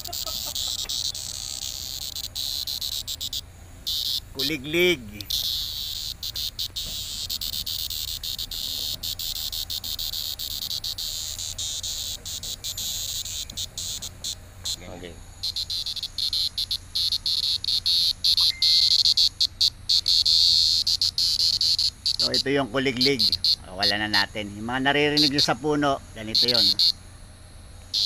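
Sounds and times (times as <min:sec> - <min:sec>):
cicada buzzing: 0:00.0 - 0:28.0.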